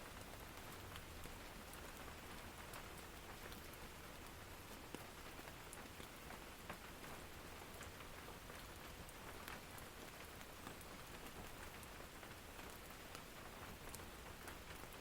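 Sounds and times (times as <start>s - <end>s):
rain patter on cabin: 0.0s - 15.0s.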